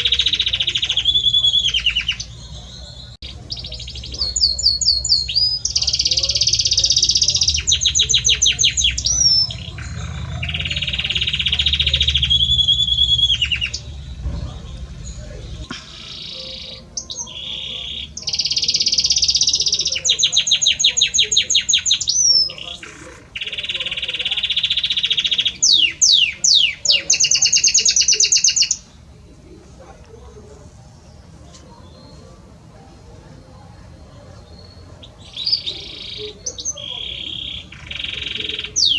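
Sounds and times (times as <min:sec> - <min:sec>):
canary singing: 0:00.0 - 0:29.6, 0:33.3 - 0:38.9.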